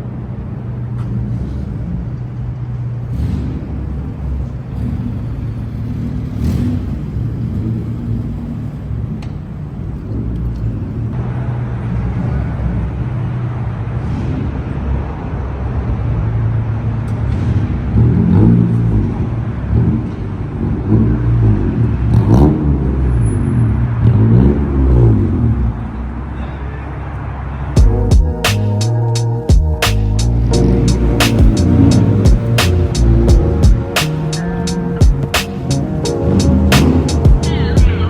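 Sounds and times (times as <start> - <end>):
engine revving: 0.0 - 26.2, 27.8 - 38.0
car engines running: 0.0 - 38.0.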